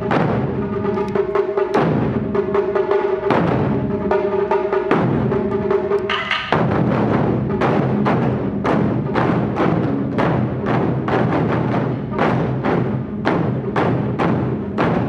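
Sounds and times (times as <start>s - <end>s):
taiko drums playing: 0.0s - 15.0s.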